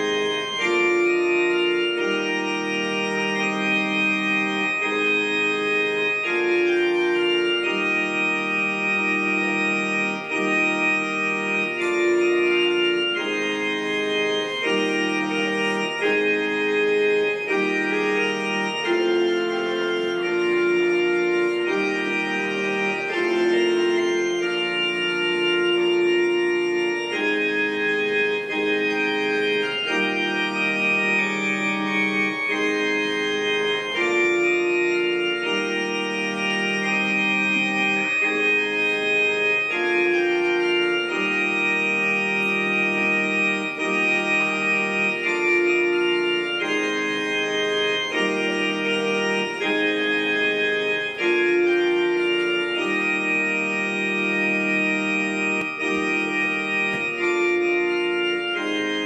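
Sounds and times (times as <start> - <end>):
organ playing slow chords: 0.0 - 59.0.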